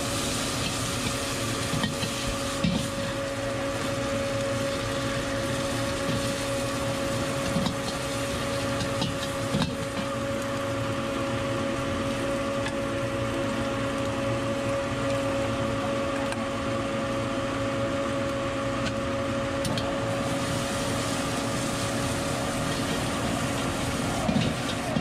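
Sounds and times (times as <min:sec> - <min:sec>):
food sizzling in a wok: 0:00.0 - 0:15.4, 0:19.9 - 0:25.0
burner humming: 0:00.0 - 0:25.0.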